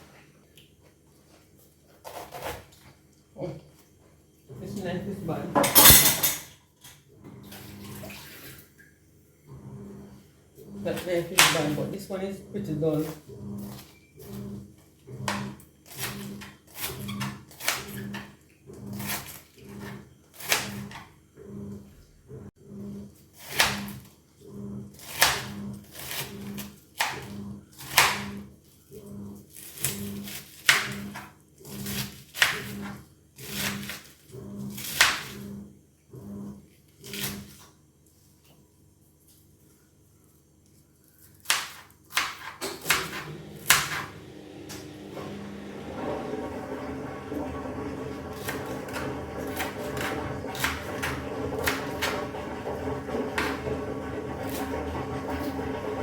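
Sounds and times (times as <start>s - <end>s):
washing machine agitating: 0.0s - 38.6s, 41.4s - 56.0s.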